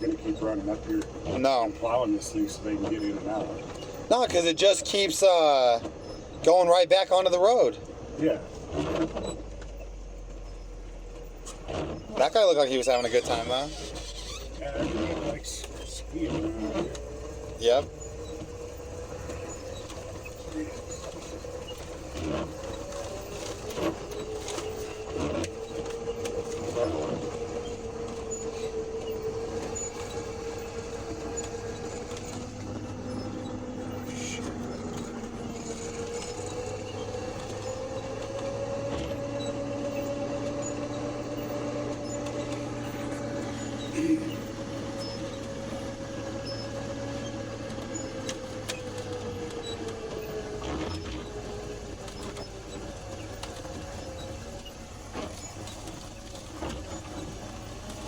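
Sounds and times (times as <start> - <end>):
vehicle engine whine: 0.0 - 58.0.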